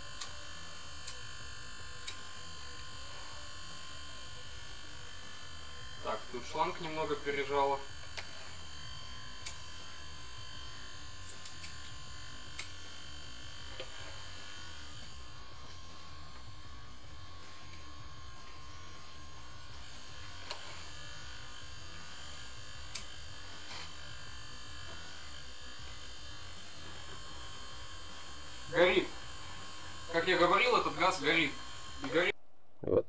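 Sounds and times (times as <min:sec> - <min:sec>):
small electric pump buzzing: 0:00.0 - 0:32.4.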